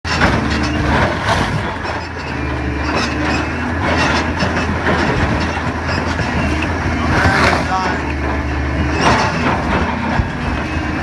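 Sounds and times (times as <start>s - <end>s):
heavy machinery engine running: 0.1s - 11.0s.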